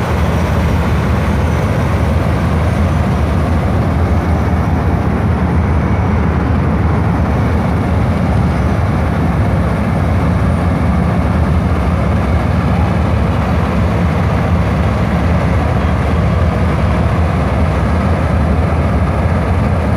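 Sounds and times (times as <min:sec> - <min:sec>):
combine harvester engine droning: 0:00.0 - 0:19.9.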